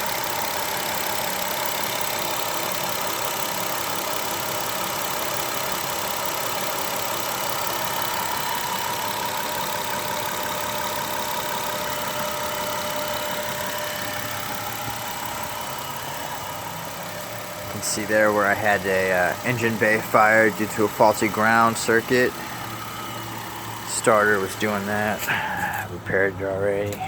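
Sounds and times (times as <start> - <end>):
car engine idling: 0.0 - 27.0
rapid engine ticking: 0.0 - 27.0.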